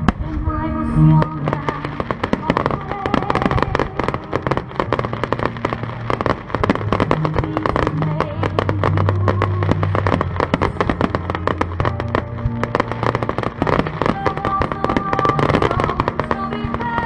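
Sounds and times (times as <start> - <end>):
fireworks bursting and crackling: 0.0 - 17.0
steady music: 0.0 - 17.0.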